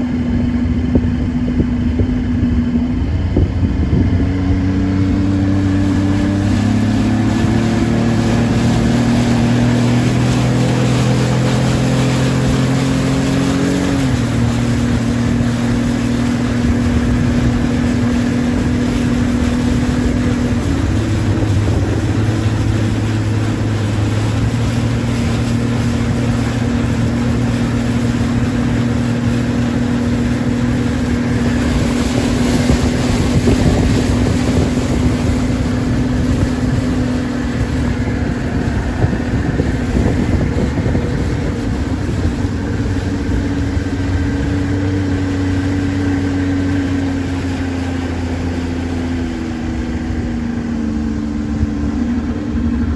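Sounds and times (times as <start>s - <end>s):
outboard motor running: 0.0s - 52.9s
wind on microphone: 0.0s - 52.9s.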